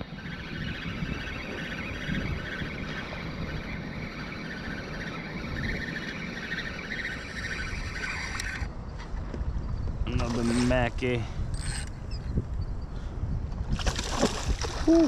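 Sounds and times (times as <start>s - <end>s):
wind on the microphone: 0.0s - 15.0s.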